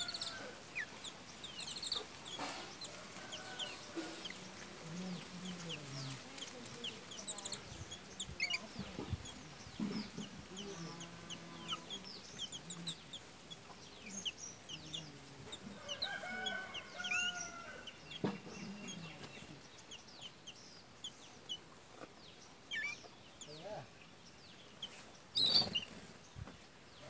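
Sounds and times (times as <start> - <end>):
birds chirping and chattering: 0.0 - 27.0.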